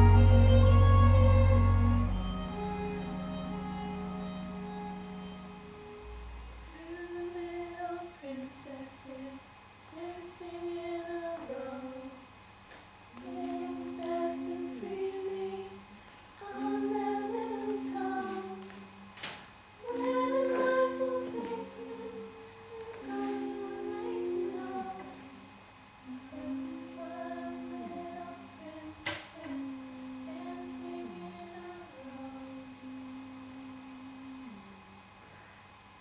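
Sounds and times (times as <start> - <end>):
voices singing in harmony: 0.0 - 12.3, 13.1 - 35.0.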